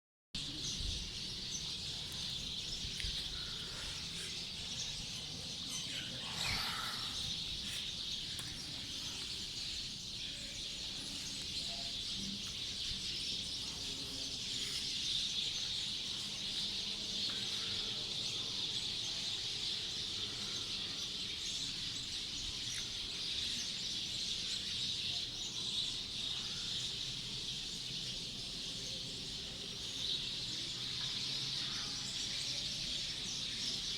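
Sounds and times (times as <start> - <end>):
small birds chirping chorus: 0.4 - 33.9.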